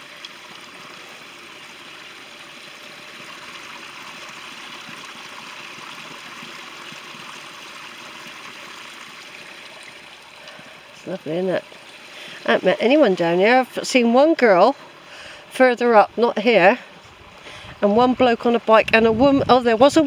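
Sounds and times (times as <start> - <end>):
brook babbling over pebbles: 0.0 - 20.0.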